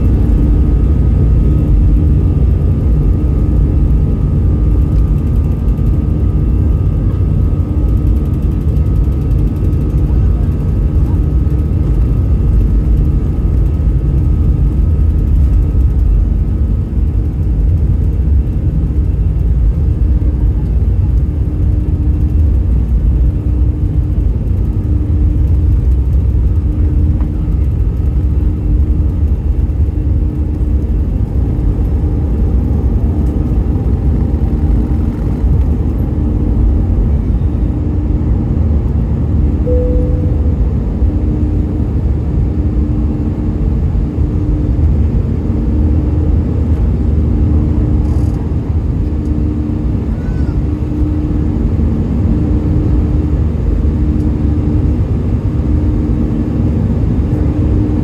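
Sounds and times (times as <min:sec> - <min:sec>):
jet engines roaring at takeoff: 0:00.0 - 0:58.0.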